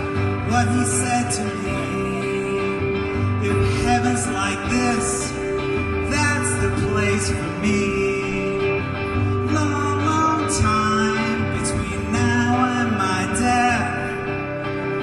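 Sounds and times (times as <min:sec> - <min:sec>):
guitar: 0:00.0 - 0:15.0
man singing: 0:00.0 - 0:15.0.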